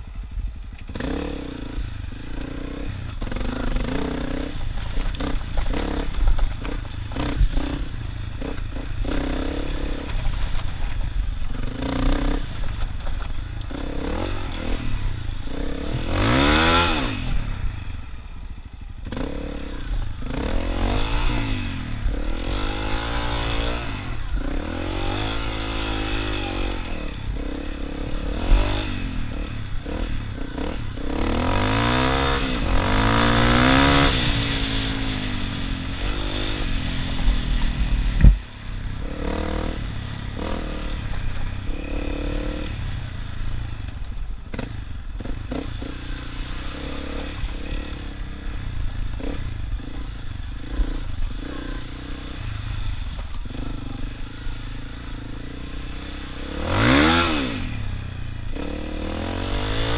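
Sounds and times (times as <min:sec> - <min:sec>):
dirt motorcycle engine revving: 0:00.8 - 0:59.9.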